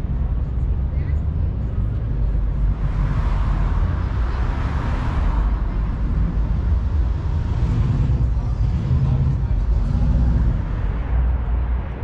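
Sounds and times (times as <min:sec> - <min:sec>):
car engines rumbling: 0:00.0 - 0:12.0
street noise: 0:00.0 - 0:12.0.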